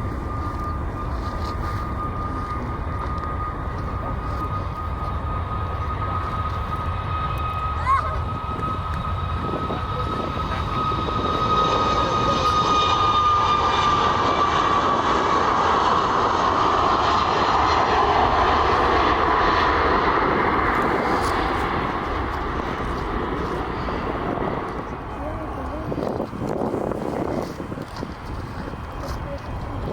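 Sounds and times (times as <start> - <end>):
airliner engines passing: 0.0 - 29.9
high engine whine: 0.0 - 29.9.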